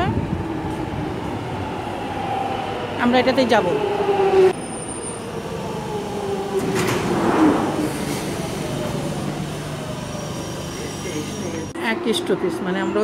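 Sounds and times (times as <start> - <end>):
underground train whine: 0.0 - 13.0.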